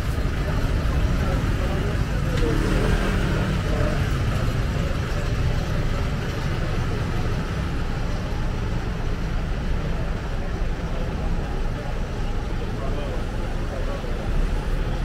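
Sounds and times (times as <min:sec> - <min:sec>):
faint murmur of voices: 0:00.0 - 0:15.0
low street rumble: 0:00.0 - 0:15.0.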